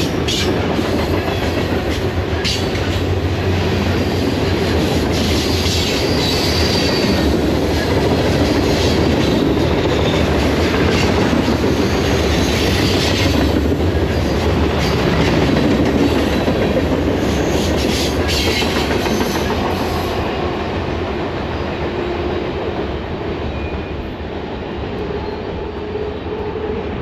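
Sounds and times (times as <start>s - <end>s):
freight train rolling on rails: 0.0s - 27.0s.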